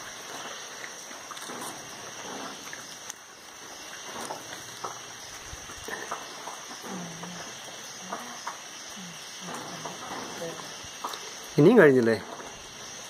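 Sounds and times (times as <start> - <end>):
faint drips and ticks: 0.0 - 13.0
light rain hiss: 0.0 - 13.0.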